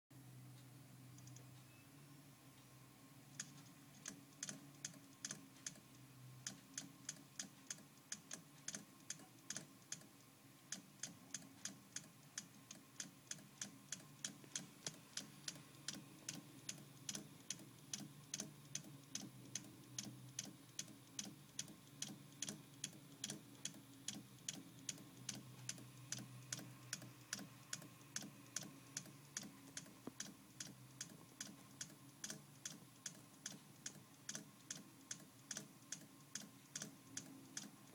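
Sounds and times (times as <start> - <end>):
low steady hum: 0.2 - 37.9
hard drive clicking: 3.3 - 37.9.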